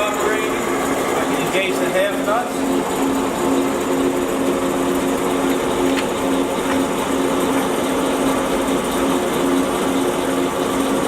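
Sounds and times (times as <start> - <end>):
lathe running: 0.0 - 11.0.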